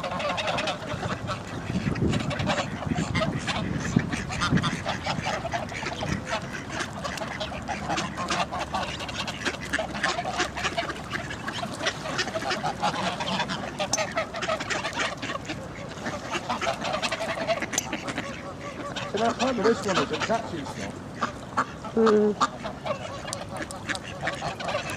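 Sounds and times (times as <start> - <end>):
ducks and geese honking and quacking: 0.0 - 24.9.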